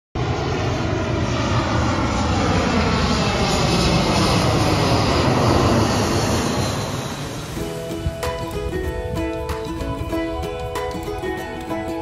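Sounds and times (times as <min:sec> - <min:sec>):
jet aircraft flying overhead: 0:00.2 - 0:12.0.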